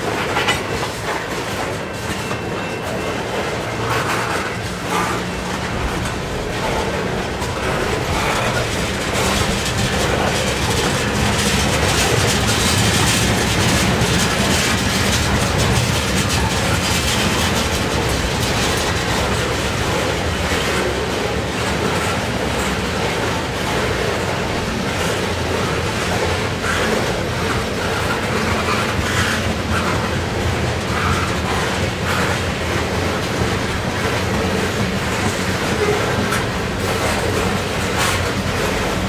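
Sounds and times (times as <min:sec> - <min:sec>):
freight train rolling on rails: 0:00.0 - 0:39.0.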